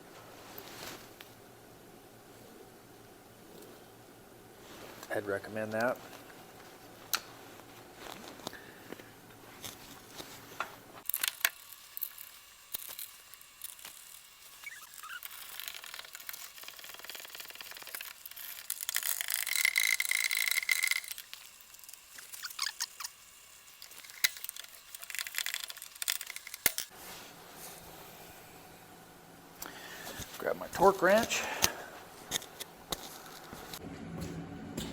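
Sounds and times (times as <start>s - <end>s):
thin steady whine: 0.0s - 34.9s.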